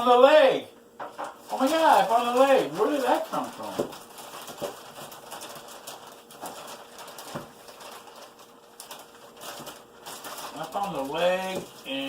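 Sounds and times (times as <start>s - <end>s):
packaging rustling and crackling: 1.0s - 12.0s.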